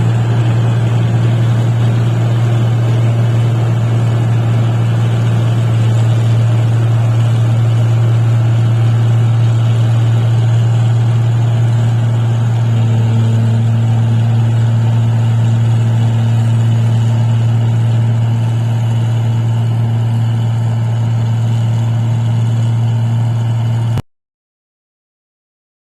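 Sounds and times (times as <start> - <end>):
higher tone: 0.0 - 23.7
engine low hum: 0.0 - 24.0.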